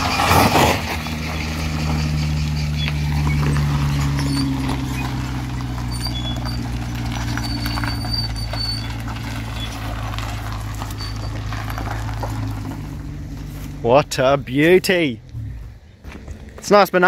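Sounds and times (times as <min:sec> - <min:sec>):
tyres crunching on gravel: 0:00.0 - 0:17.0
vehicle engine running: 0:00.0 - 0:17.0.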